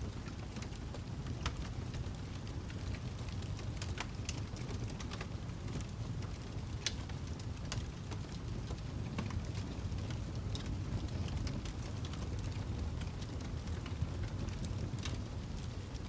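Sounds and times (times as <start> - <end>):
low rumble of burning: 0.0 - 16.0
wood fire snapping and popping: 0.0 - 16.0.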